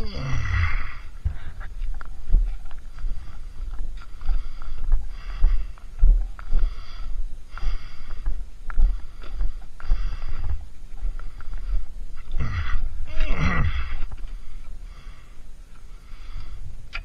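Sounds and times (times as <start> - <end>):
man breathing hard: 0.0 - 1.9, 2.7 - 16.8
footsteps on dirt track: 0.0 - 17.0.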